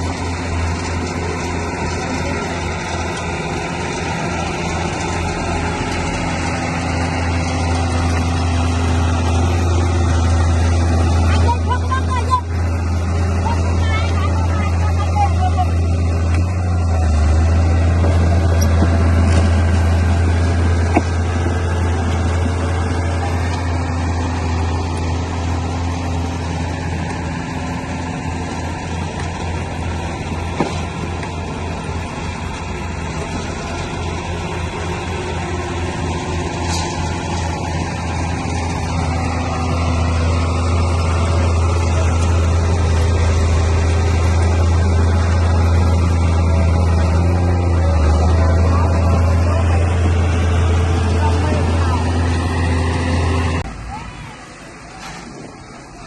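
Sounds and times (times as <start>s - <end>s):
bulldozer diesel engine drone: 0.0s - 56.0s.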